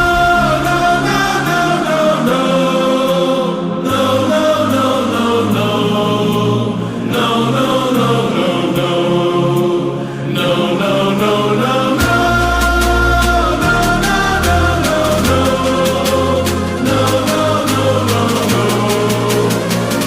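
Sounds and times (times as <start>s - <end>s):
choir singing chant-like notes: 0.0s - 20.0s.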